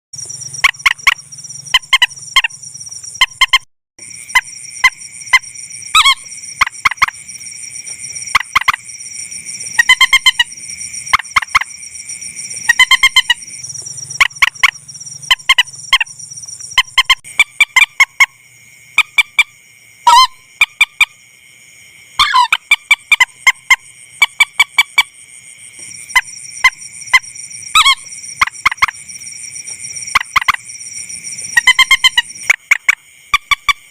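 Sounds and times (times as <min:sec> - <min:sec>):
recorded bird calls: 0:00.2 - 0:18.3, 0:22.2 - 0:25.1, 0:25.8 - 0:33.9.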